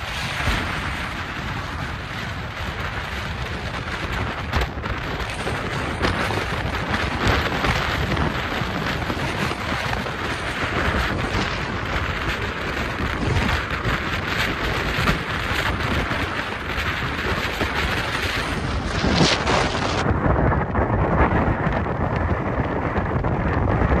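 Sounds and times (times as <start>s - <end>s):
car road noise rumble: 0.0s - 24.0s
wind buffeting microphone: 0.0s - 24.0s.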